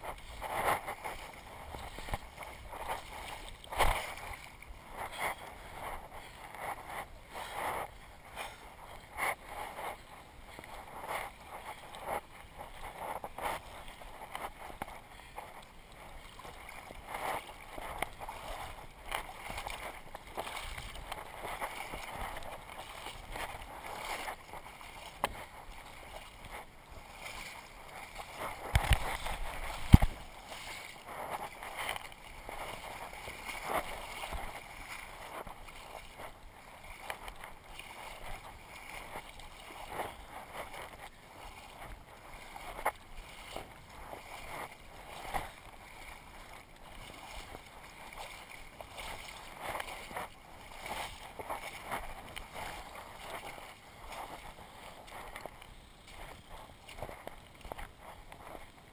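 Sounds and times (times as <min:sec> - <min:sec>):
water sloshing and splashing: 0:00.0 - 0:58.9.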